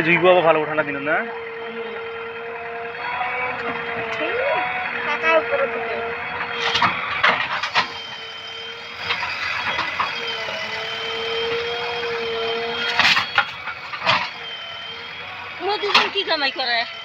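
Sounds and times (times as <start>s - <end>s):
backhoe loader engine whine: 0.0s - 17.0s.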